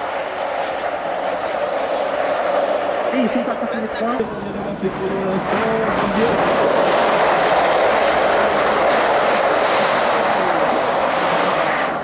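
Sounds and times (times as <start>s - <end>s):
tyres spraying snow and ice: 0.0s - 12.0s.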